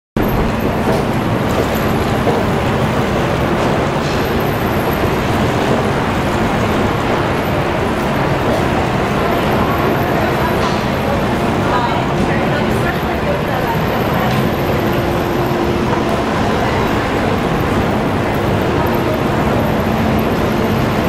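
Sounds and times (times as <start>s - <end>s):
city street traffic: 0.2s - 21.0s.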